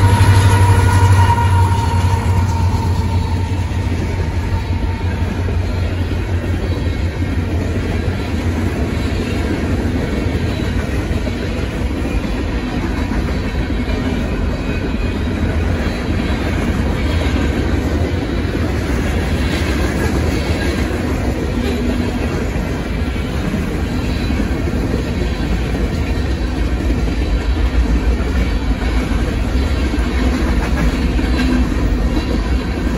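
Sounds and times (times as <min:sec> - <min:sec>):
heavy rumble of freight cars: 0:00.0 - 0:32.9
train wheels clattering on rails: 0:00.0 - 0:32.9.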